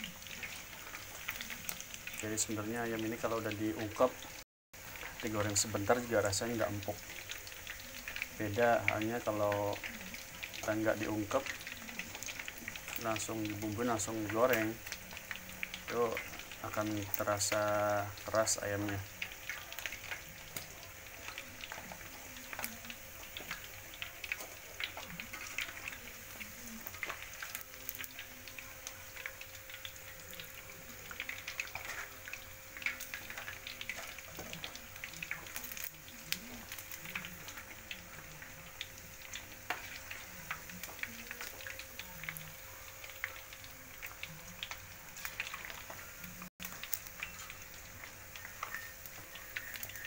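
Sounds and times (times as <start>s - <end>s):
oil sizzling in a wok: 0.0s - 50.0s.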